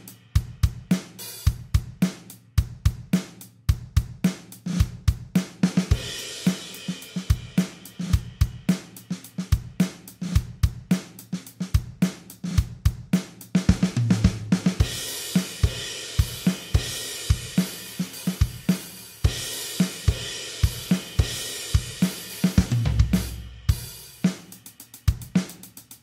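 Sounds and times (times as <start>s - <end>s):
drum kit rock beat: 0.0s - 26.0s.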